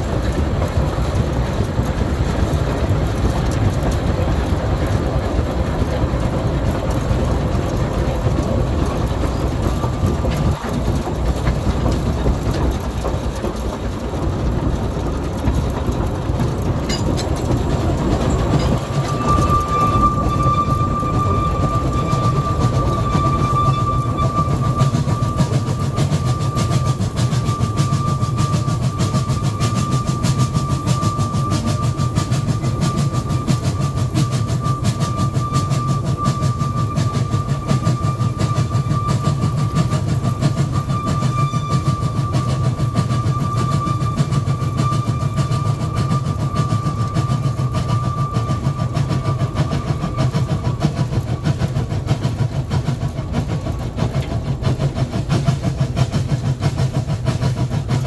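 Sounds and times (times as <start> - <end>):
steam locomotive rumbling: 0.0 - 58.0.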